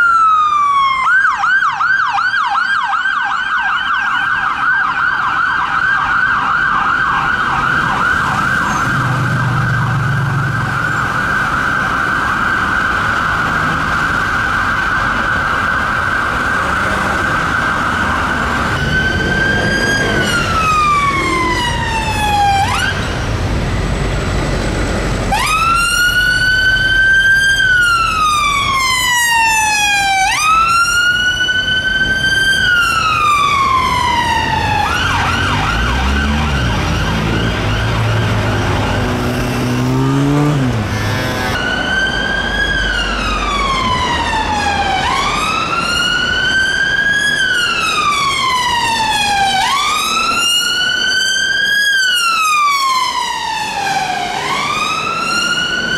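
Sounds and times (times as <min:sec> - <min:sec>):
siren warbling yelp: 0:00.0 - 0:23.2, 0:25.3 - 0:55.9
emergency siren wailing: 0:00.0 - 0:55.9.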